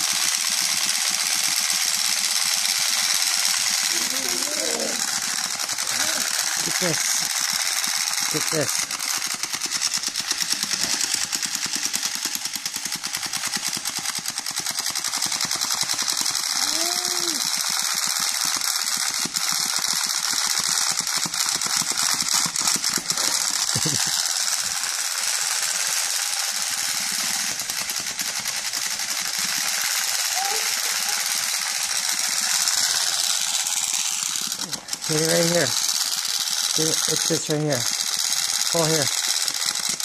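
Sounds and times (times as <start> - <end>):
toy ratcheting rattle: 0.0 - 40.0.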